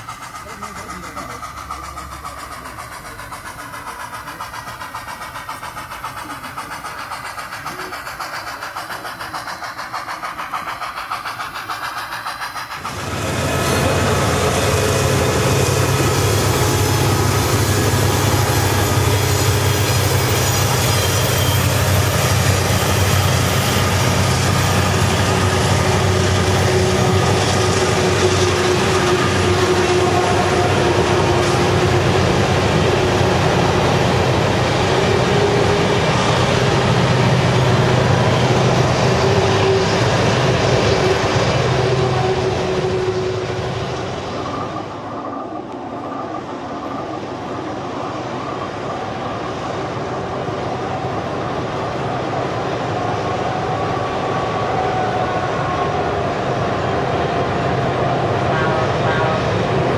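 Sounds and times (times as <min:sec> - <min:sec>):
model train wheels rolling on track: 0:00.0 - 0:51.3
model freight train rumble: 0:00.0 - 0:59.9.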